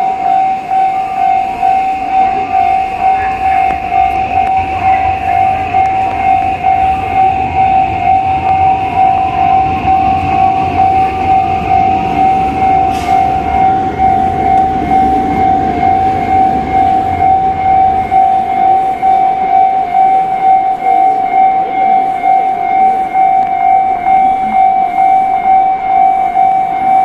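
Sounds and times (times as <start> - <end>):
railway crossing bell ringing: 0.0 - 27.0
train rumbling past: 0.0 - 27.0.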